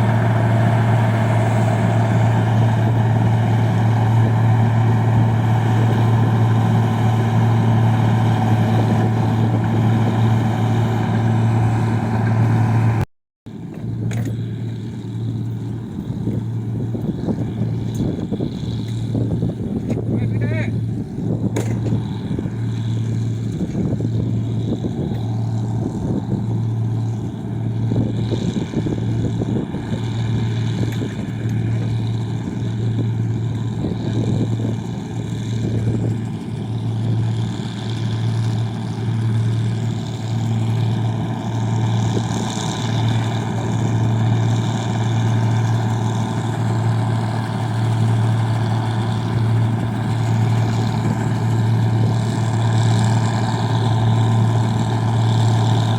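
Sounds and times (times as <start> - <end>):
machine engine humming: 0.0 - 55.9.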